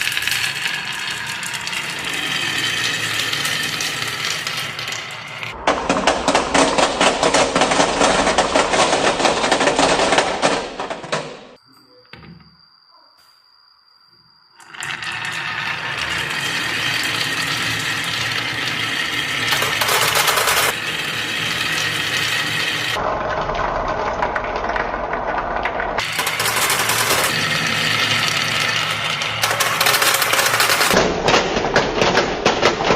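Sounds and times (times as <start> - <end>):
marbles rattling down marble run: 0.0 - 11.4, 14.6 - 31.0.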